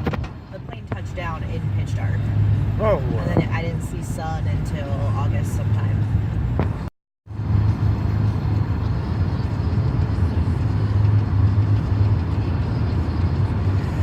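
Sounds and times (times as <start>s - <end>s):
car interior road noise: 0.0s - 14.0s.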